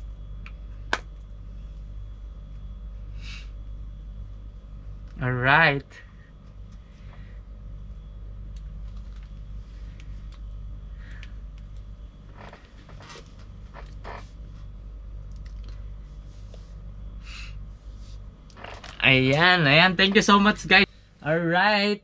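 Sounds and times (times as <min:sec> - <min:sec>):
room tone hum: 0:00.0 - 0:22.0.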